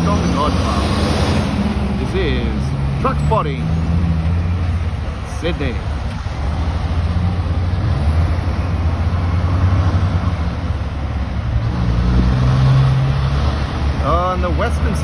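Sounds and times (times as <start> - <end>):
truck diesel engine rumble: 0.0 - 15.0
van passing: 0.0 - 15.0.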